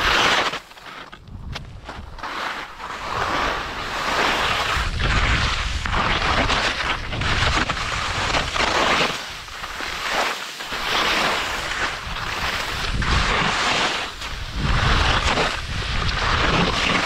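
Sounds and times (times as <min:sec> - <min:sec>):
skis scraping through snow: 0:00.0 - 0:17.0
wind noise on microphone: 0:01.1 - 0:17.0.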